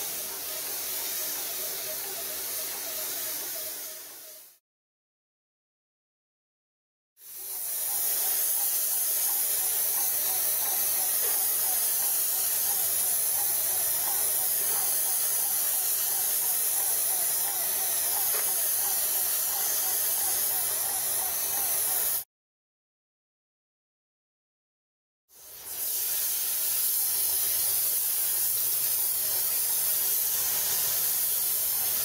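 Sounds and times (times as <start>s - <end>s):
spray gun hissing: 0.0s - 4.6s, 7.2s - 22.2s, 25.4s - 32.0s.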